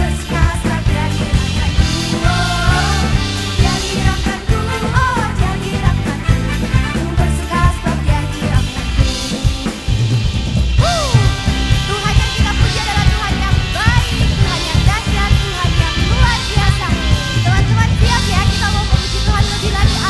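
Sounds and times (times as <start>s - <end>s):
people singing: 0.0s - 10.1s, 10.8s - 20.0s
bass guitar: 0.0s - 20.0s
electric guitars: 0.0s - 20.0s
keyboard: 0.0s - 20.0s
live rock band playing: 0.0s - 20.0s
loud close drum kit: 0.0s - 20.0s.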